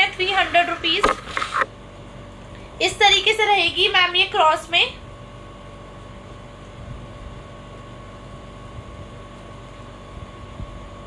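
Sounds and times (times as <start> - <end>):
faint constant whine: 0.0 - 11.0
machine room hum: 0.0 - 11.0.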